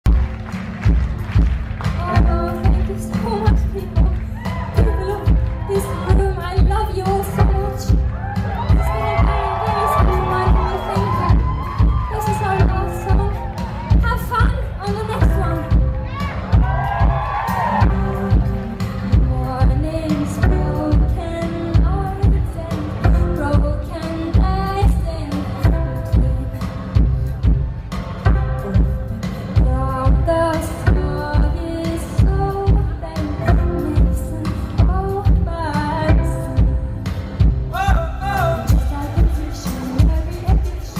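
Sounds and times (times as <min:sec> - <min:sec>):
heavy kick-drum beat: 0:00.9 - 0:31.6, 0:32.2 - 0:40.9
woman singing: 0:01.8 - 0:16.6, 0:17.4 - 0:27.1, 0:28.3 - 0:40.9.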